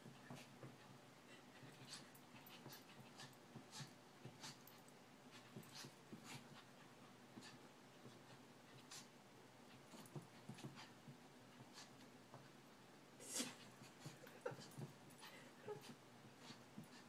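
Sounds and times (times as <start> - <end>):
paws scrabbling on a rug: 0.0 - 12.6, 13.5 - 17.0
soft dog breathing: 0.0 - 12.6, 13.2 - 17.0.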